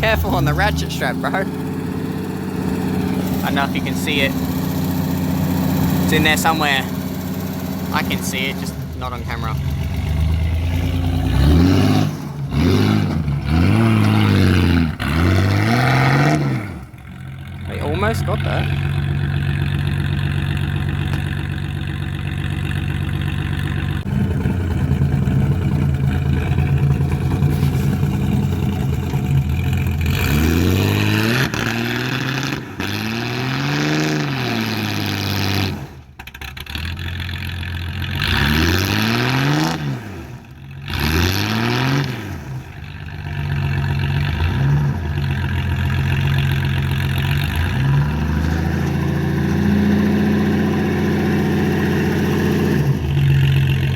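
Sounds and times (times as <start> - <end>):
engine idling and revving: 0.0 - 53.9.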